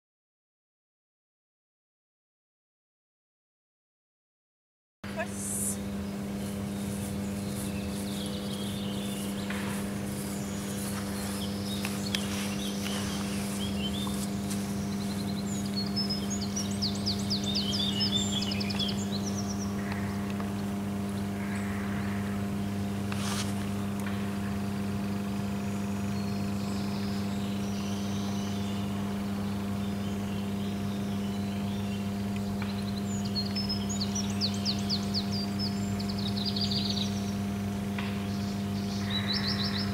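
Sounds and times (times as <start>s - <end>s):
low steady hum: 5.0s - 39.9s
songbirds chirping: 5.1s - 39.9s.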